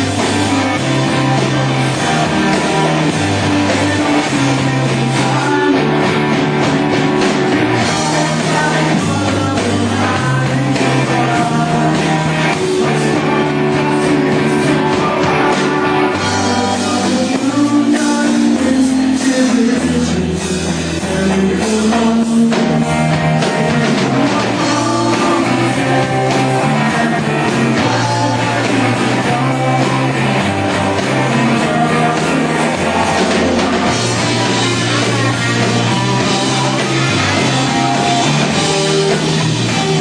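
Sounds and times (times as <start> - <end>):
bass line: 0.0 - 40.0
electric guitar: 0.0 - 40.0
person singing: 0.0 - 40.0.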